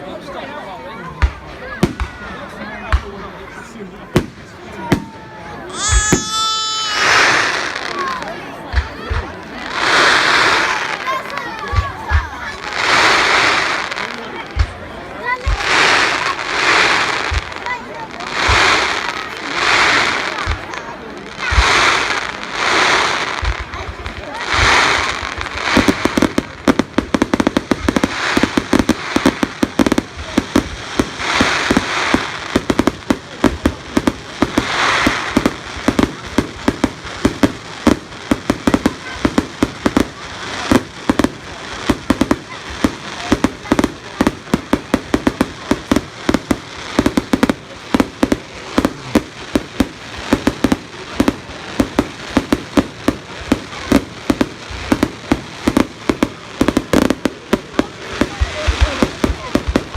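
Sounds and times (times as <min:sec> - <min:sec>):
fireworks crackling bangs: 0:00.0 - 0:59.9
fireworks hissing: 0:01.2 - 0:59.9.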